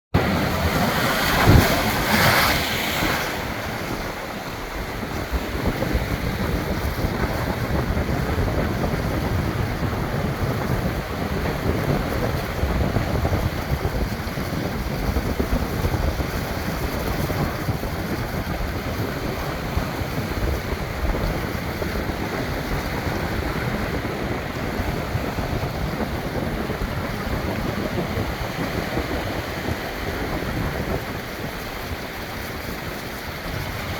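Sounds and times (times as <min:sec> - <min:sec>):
wind buffeting microphone: 0:00.1 - 0:33.9
ocean surf washing in: 0:00.2 - 0:33.9.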